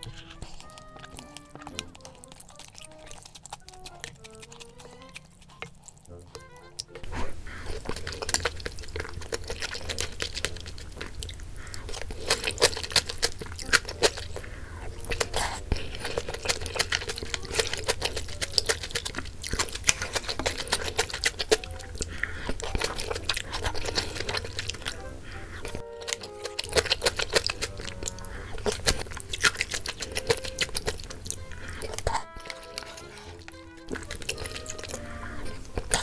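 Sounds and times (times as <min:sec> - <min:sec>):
wet chewing with smacks: 0:00.0 - 0:36.0.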